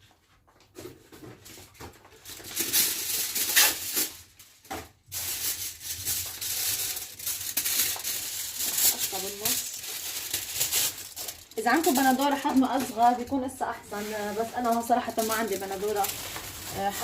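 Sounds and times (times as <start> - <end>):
aluminium foil crinkling: 1.2 - 17.0.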